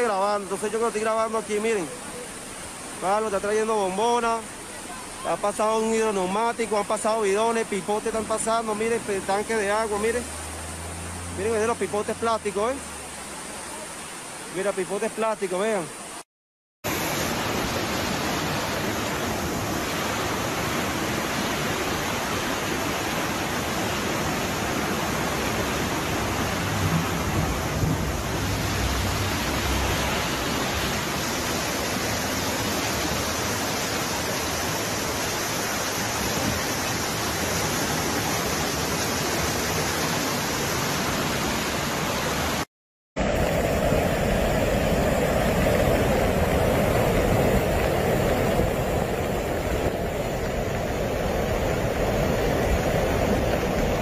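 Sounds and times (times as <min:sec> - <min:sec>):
flash-flood torrent rushing: 0:00.0 - 0:16.2, 0:16.9 - 0:54.0
floodwater rushing: 0:00.0 - 0:16.2, 0:16.9 - 0:54.0.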